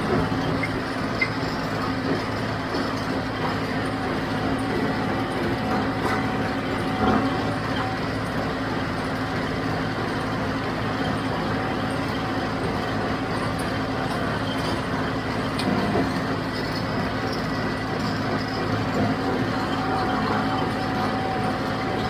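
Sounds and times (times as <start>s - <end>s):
hay baler baling: 0.0s - 22.0s
tractor diesel engine running: 0.0s - 22.0s.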